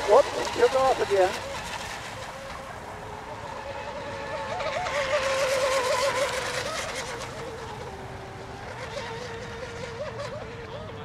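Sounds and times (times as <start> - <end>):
racing boat engines warbling: 0.0 - 11.0.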